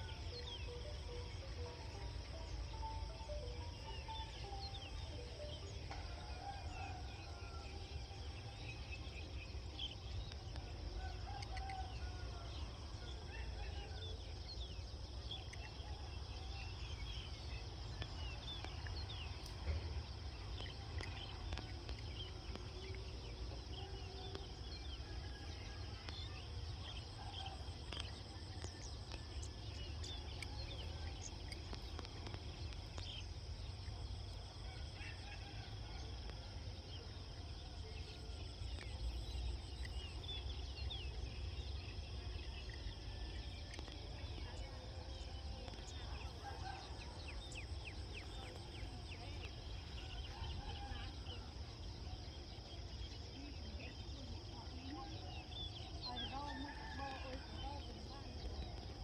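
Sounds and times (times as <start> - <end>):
insect drone: 0.0 - 59.0.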